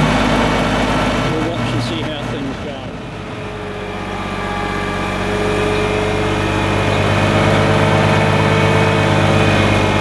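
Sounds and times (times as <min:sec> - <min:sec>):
crane hydraulics hum: 0:00.0 - 0:10.0
diesel truck engine running: 0:00.0 - 0:10.0.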